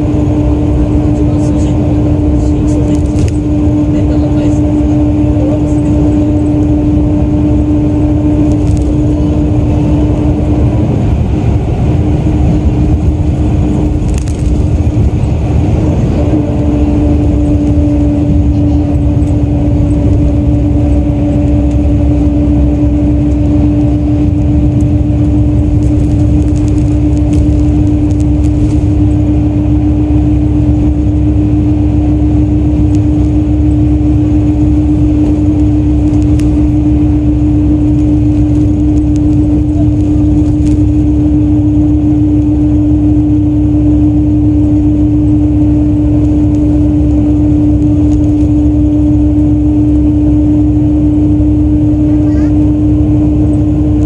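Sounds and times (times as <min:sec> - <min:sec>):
coach engine droning: 0:00.0 - 0:54.0
road rumble: 0:00.0 - 0:54.0.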